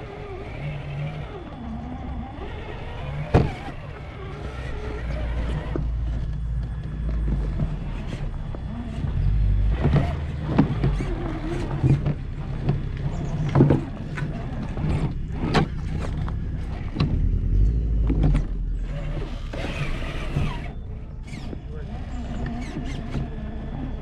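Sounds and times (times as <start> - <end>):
rc car driving over rock: 0.0 - 24.0.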